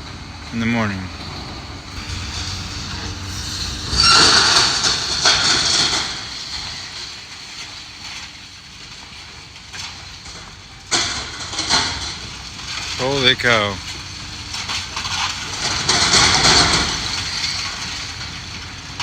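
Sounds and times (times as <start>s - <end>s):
demolition debris crashing: 0.9s - 19.0s.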